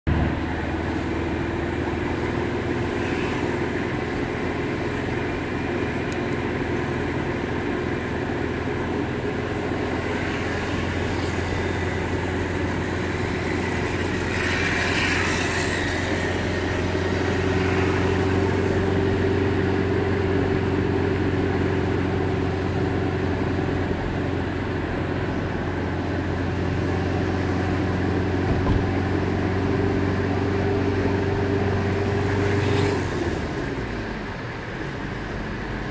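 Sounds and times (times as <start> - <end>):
car engine and road drone: 0.0 - 35.9.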